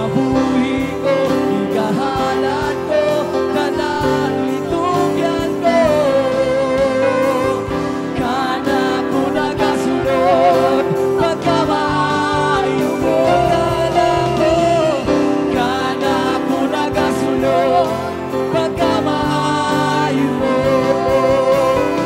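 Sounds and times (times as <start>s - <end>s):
keyboard: 0.0s - 22.0s
vocalists singing together: 0.0s - 22.0s.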